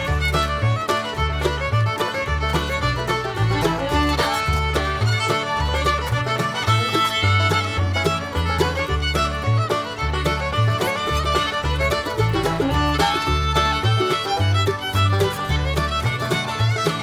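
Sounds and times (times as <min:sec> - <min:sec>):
fiddle: 0:00.0 - 0:17.0
walking bass: 0:00.0 - 0:17.0.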